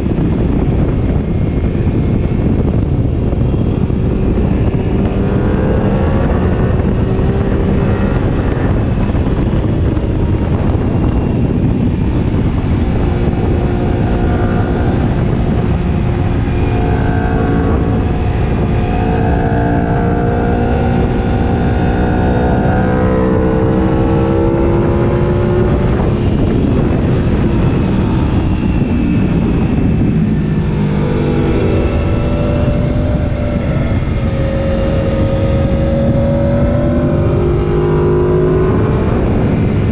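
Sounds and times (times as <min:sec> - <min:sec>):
motorcycle engine accelerating: 0:00.0 - 0:39.9
wind on microphone: 0:00.0 - 0:39.9.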